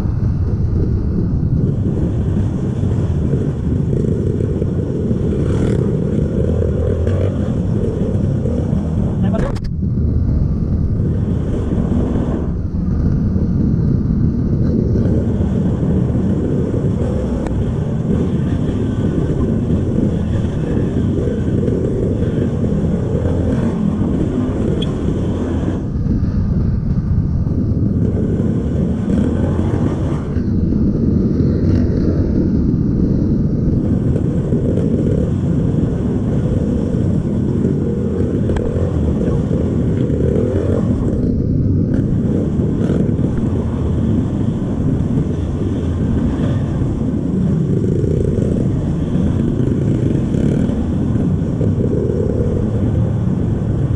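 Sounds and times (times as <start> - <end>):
trail bike engine running: 0.0 - 53.9.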